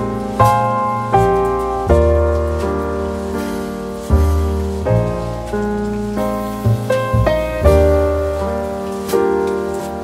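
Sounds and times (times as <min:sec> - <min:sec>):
gentle piano chords: 0:00.0 - 0:10.0.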